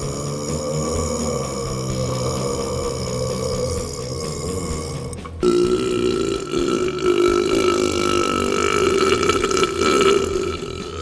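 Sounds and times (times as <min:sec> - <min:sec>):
man belching into microphone: 0:00.0 - 0:11.0.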